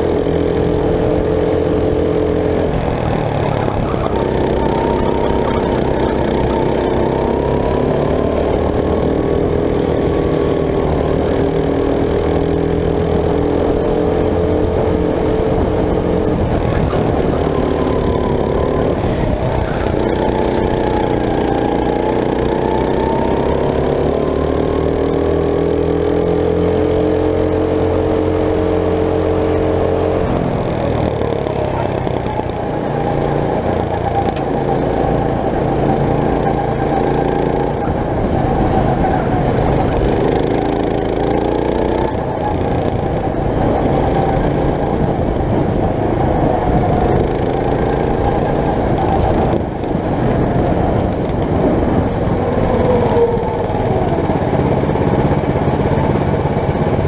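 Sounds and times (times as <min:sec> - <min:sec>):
go-kart engine racing: 0:00.0 - 0:57.0.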